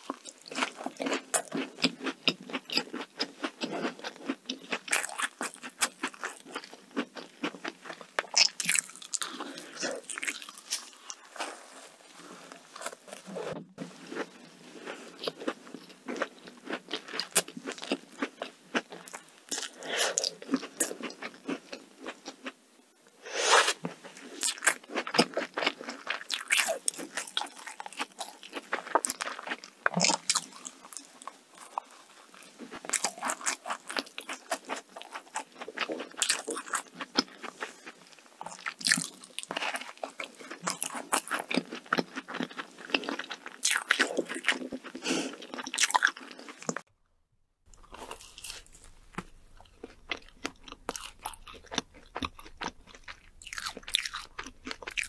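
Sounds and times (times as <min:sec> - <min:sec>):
chewing donut: 0:00.0 - 0:22.6, 0:23.8 - 0:46.9, 0:47.7 - 0:55.0.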